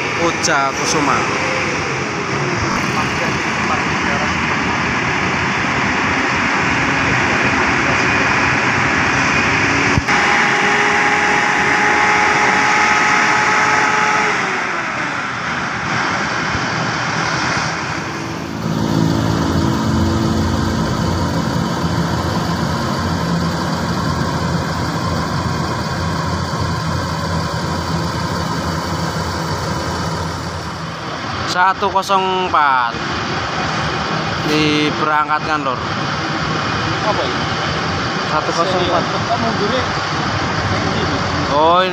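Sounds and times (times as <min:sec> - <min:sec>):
diesel bus engines running: 0:00.0 - 0:41.9
steady whine: 0:00.0 - 0:41.9.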